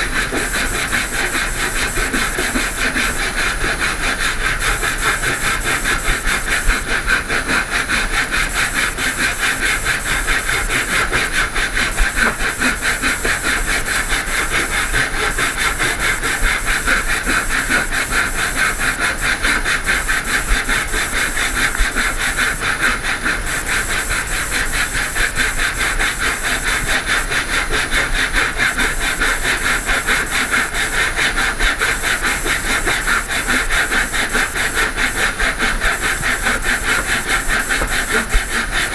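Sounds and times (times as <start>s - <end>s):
saw cutting wood: 0.0s - 38.9s.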